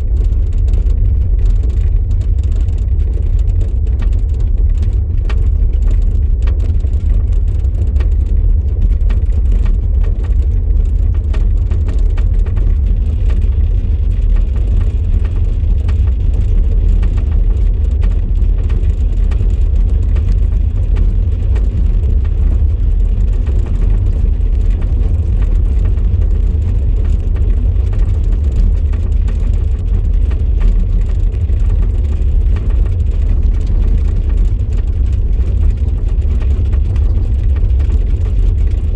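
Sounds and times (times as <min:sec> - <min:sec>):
low road rumble: 0:00.0 - 0:38.9.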